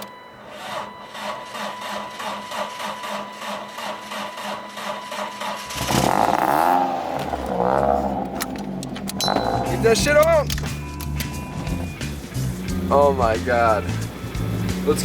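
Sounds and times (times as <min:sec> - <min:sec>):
car engine cranking and revving: 0:00.0 - 0:15.0.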